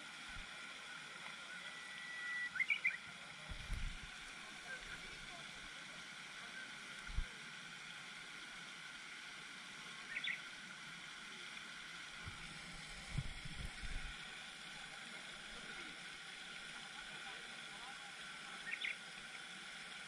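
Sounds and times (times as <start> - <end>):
fountain water spraying: 0.0 - 20.0.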